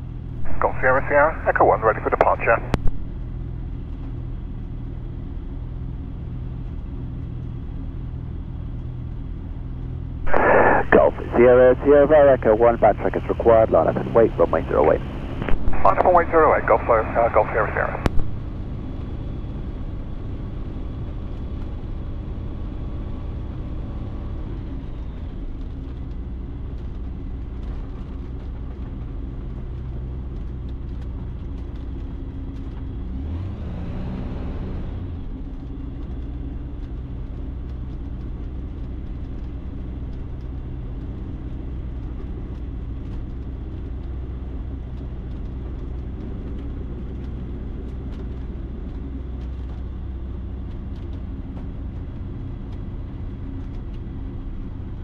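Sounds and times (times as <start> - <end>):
light aircraft engine droning: 0.0 - 33.5, 34.1 - 55.0.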